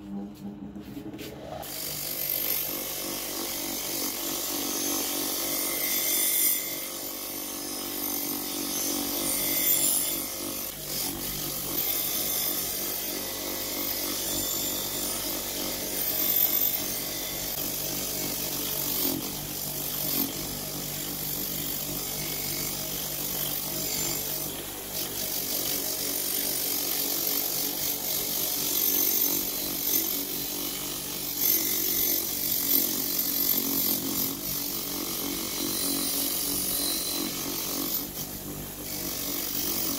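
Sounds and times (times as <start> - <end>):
bench grinder grinding metal: 1.6 - 39.9.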